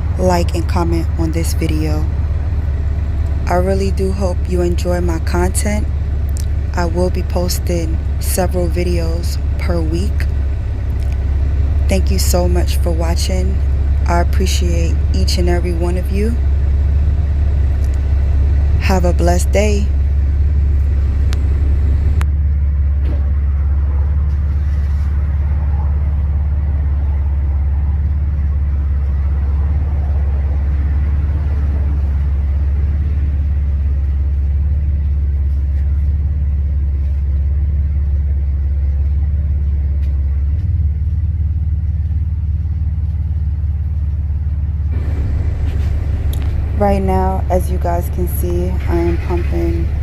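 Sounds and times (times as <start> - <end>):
diesel truck engine rumbling: 0.0 - 50.0.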